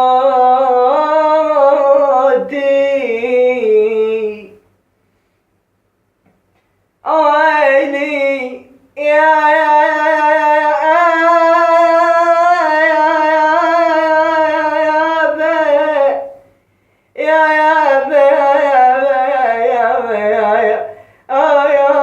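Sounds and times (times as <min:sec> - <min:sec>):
man singing unaccompanied: 0:00.0 - 0:04.6, 0:07.0 - 0:22.0.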